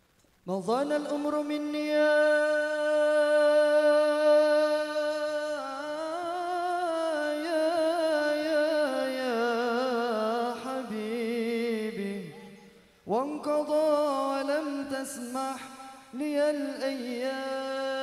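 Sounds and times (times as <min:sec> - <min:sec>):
man singing unaccompanied: 0:00.4 - 0:18.0.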